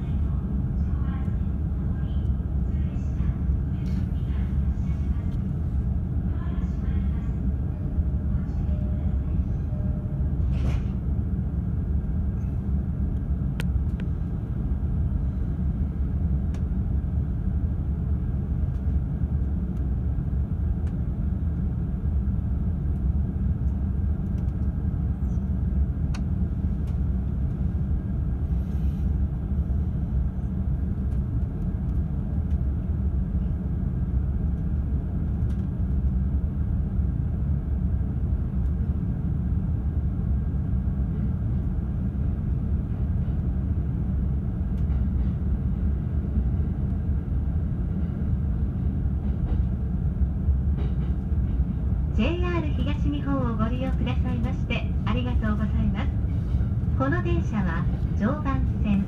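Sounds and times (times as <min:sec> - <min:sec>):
train interior rumble: 0:00.0 - 0:59.0.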